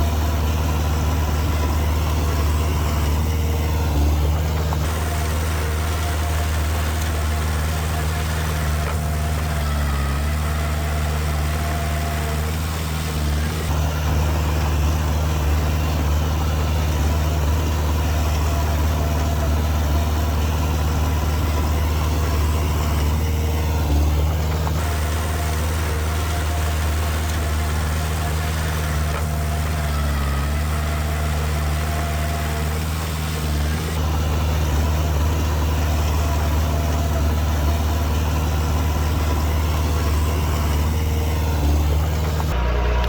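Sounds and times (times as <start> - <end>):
diesel machinery engine running: 0.0 - 43.0.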